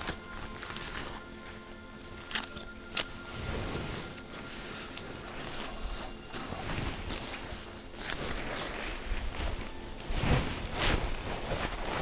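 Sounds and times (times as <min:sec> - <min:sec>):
tent fabric rustling: 0:00.0 - 0:12.0.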